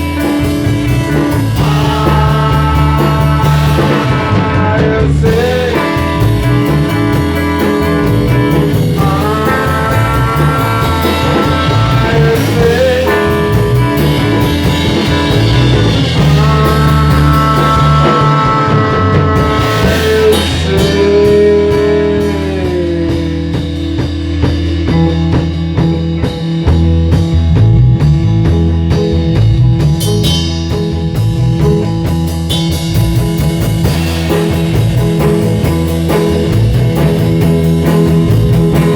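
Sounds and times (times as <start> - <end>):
drums: 0.0 - 38.9
lead guitar bending long notes: 0.0 - 38.9.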